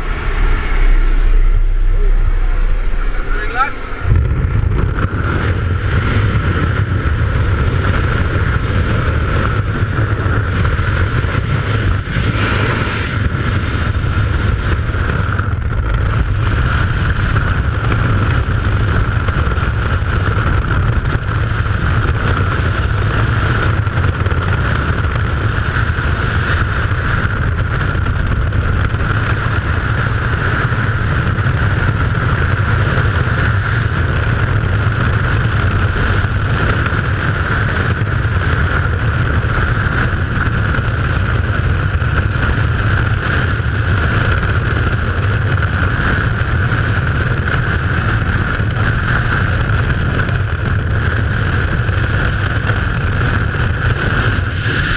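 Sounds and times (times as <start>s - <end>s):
wind roaring over camera: 0.0s - 54.9s.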